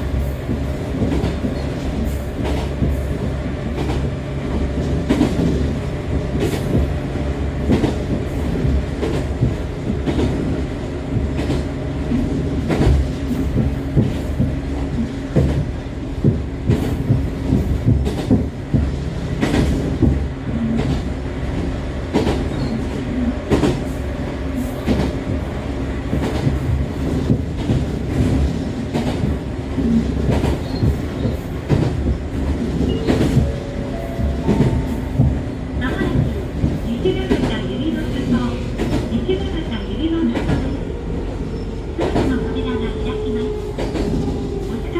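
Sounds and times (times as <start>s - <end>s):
electric railcar motor hum: 0.0s - 44.9s.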